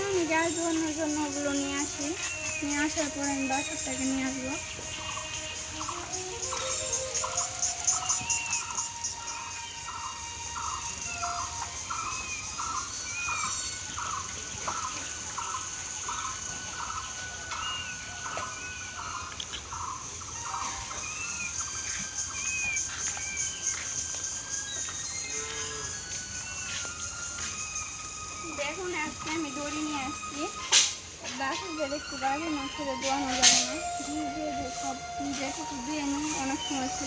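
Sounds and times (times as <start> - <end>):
birds arched chirps: 0.0 - 37.0.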